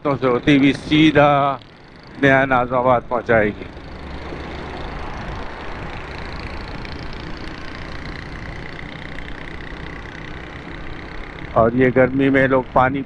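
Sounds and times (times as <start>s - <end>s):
dump truck running alongside: 0.0s - 13.0s
motorcycle wind and engine noise: 0.0s - 13.0s.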